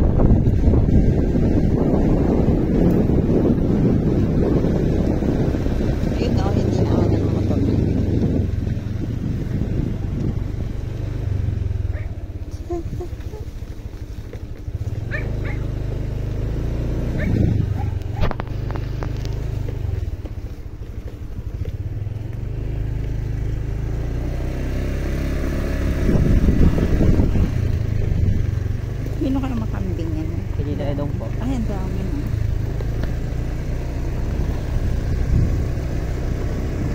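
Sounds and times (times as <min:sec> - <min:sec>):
small motorcycle engine running: 0:00.0 - 0:36.9.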